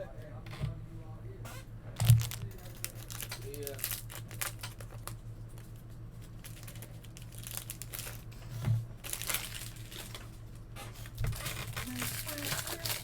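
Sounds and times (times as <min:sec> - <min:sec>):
plastic packaging crinkling: 0:02.0 - 0:13.0.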